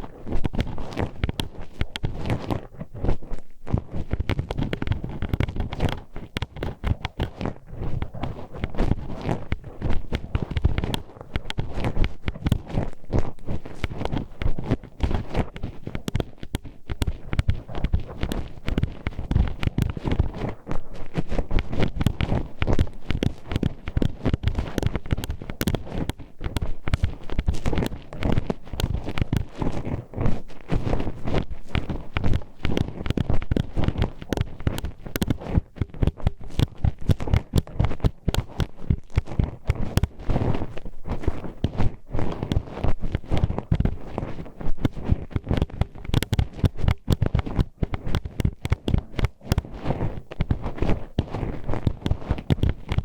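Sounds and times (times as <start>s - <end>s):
hairpin scraping: 4.2s - 53.0s.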